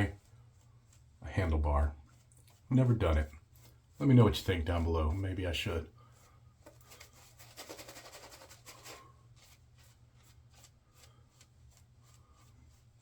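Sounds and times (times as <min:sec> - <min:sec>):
shaving brush swishing lather: 0:00.0 - 0:13.0.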